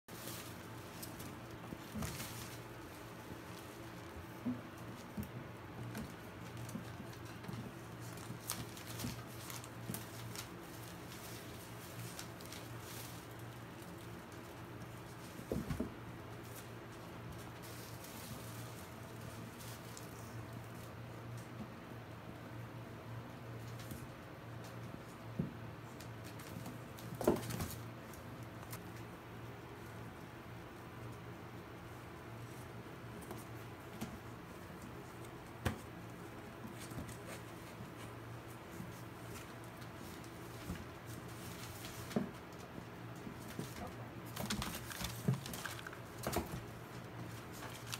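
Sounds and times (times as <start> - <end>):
soft scuffling: 0.1 - 21.6, 23.6 - 47.9.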